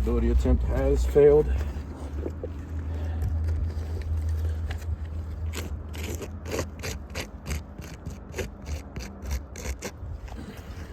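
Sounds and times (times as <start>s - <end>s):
short gritty scraping strokes: 1.4s - 10.9s.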